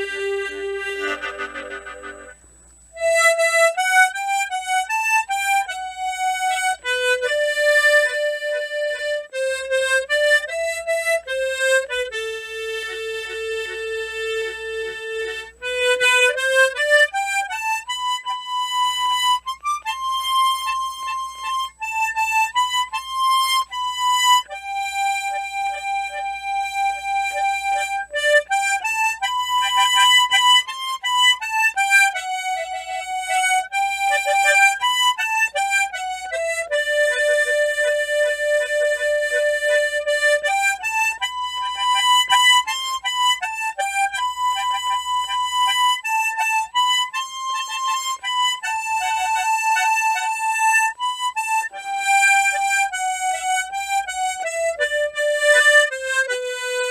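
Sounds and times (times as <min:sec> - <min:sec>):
harmonica melody: 0:00.0 - 0:56.9.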